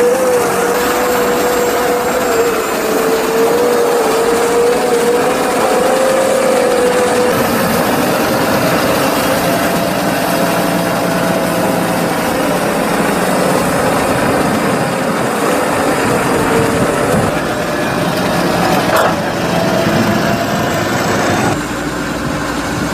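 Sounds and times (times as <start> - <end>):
tractor engines running: 0.0 - 22.9
wavering whine: 0.0 - 22.9.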